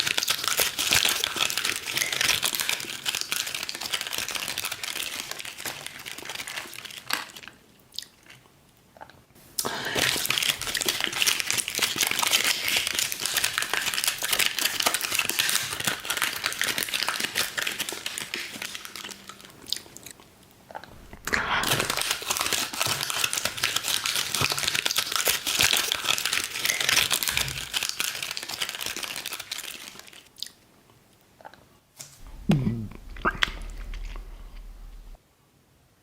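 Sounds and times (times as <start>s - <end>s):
candy wrapper crinkling: 0.0s - 7.6s, 10.0s - 20.2s, 21.0s - 30.3s, 32.2s - 35.2s.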